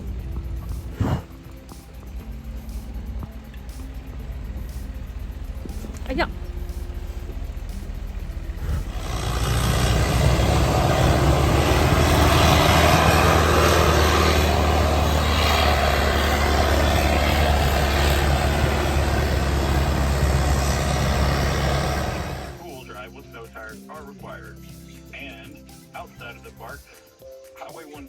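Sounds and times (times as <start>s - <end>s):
road and wind rushing: 0.0s - 22.6s
vehicle engine droning: 0.0s - 23.1s.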